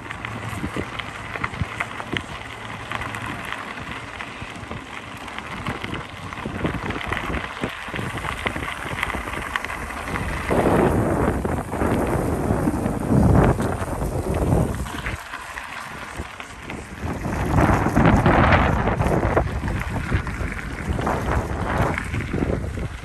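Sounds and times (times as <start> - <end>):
bicycle tyres crunching gravel: 0.0 - 23.0
wind buffeting microphone: 0.0 - 23.0.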